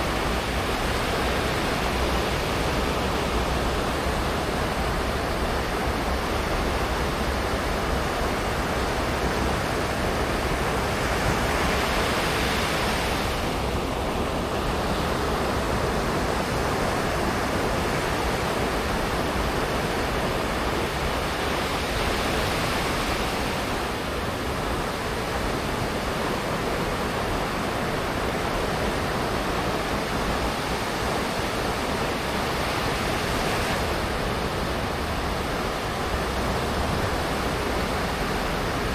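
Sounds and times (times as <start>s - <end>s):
ocean waves washing onto beach: 0.0s - 38.9s.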